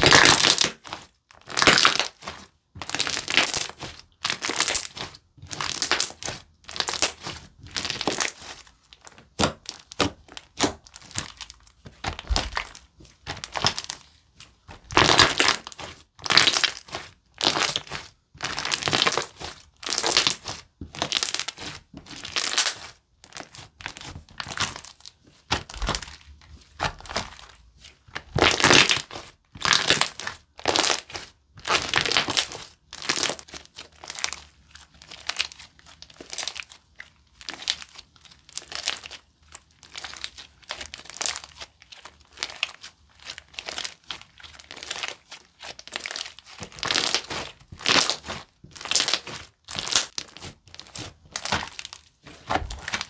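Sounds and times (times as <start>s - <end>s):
sticky crackly slime squishing: 0.0s - 53.0s.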